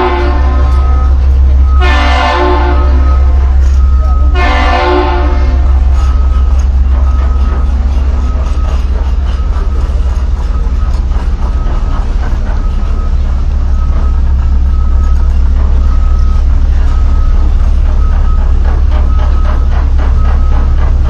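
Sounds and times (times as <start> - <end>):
heavy machinery rumbling: 0.0 - 21.0
high warning beep: 0.6 - 2.0, 2.6 - 4.4, 5.7 - 20.7.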